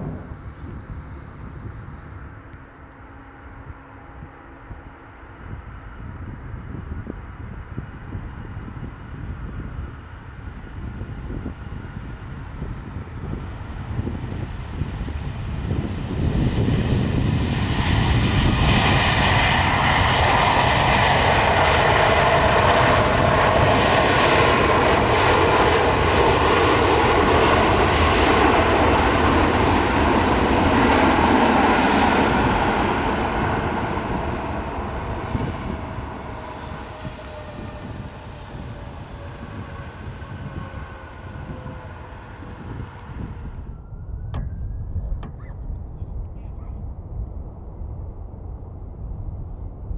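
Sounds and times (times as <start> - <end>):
jet airliner engines passing: 0.0 - 49.9.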